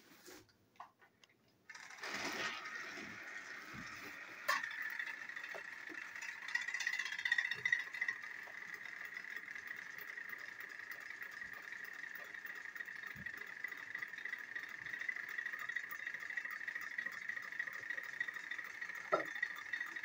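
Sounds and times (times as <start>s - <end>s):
toy train motor whirring: 1.7s - 20.0s.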